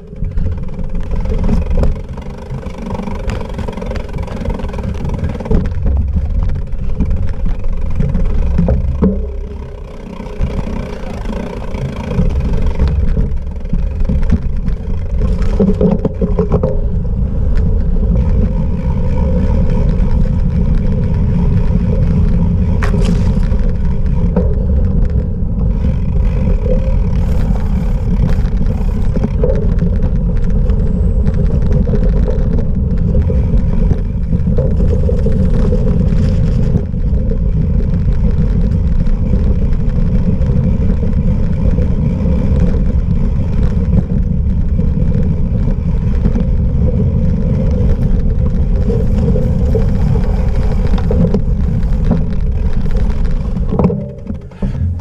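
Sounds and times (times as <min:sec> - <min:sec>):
faint clicks and rattles: 0:00.0 - 0:55.0
wind buffeting microphone: 0:00.0 - 0:55.0.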